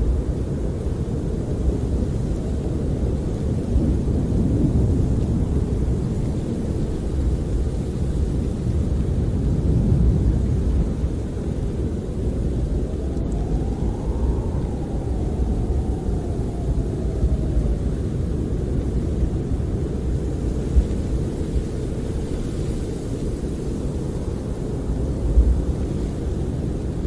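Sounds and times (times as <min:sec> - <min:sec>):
wind buffeting a camper: 0:00.0 - 0:27.0.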